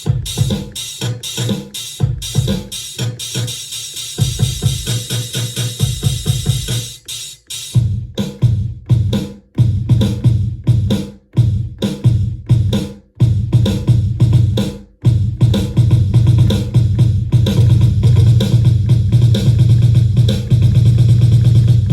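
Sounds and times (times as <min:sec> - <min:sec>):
electronic drum beat: 0:00.0 - 0:21.9.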